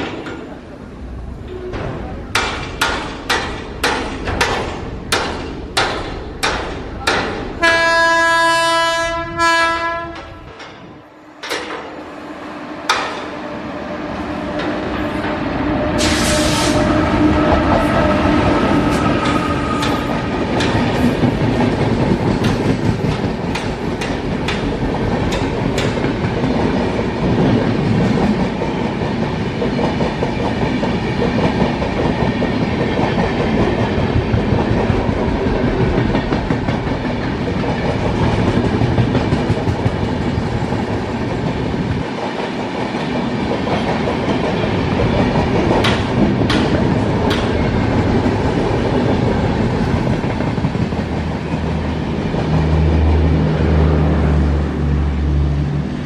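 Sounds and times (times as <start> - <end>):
clickety-clack over rail joints: 0.0 - 0.8, 1.4 - 8.0, 9.8 - 12.0, 12.9 - 13.4, 14.5 - 15.4, 17.3 - 53.3
train wheels rumbling on rails: 0.0 - 56.0.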